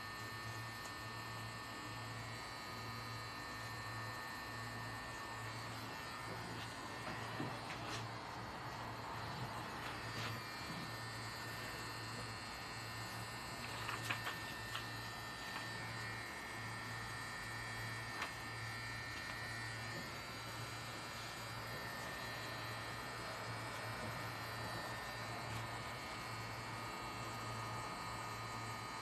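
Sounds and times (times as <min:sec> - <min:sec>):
tattoo machine motor humming: 0:00.0 - 0:29.0.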